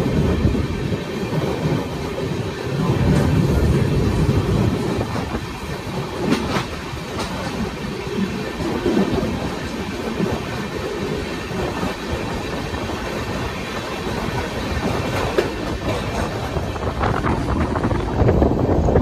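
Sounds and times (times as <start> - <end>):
clickety-clack over rail joints: 0.0 - 19.0
train wheels rumbling on rails: 0.0 - 19.0.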